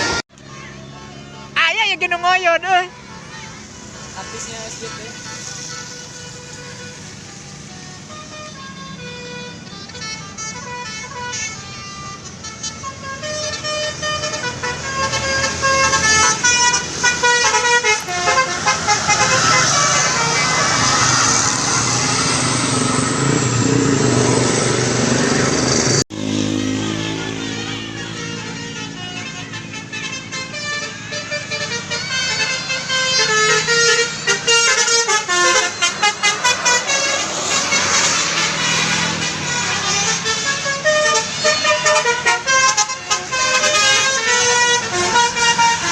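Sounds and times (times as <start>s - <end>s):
bus engines running: 0.0s - 45.9s
bus multi-tone horns playing tunes: 0.0s - 45.9s.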